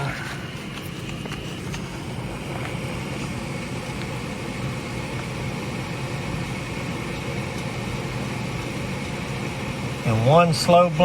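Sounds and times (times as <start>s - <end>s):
furnace blower humming: 0.0s - 11.0s.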